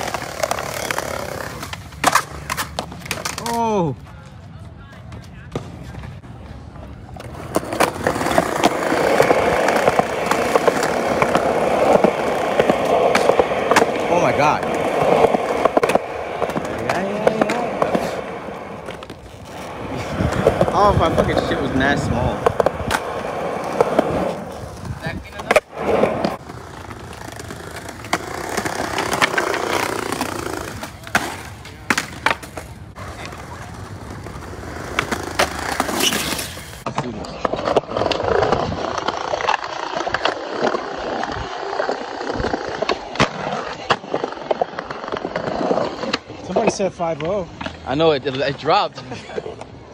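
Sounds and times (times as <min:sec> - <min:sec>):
skateboard wheels rolling on concrete: 0:00.0 - 0:49.9
skateboards clacking on ground: 0:00.0 - 0:49.9.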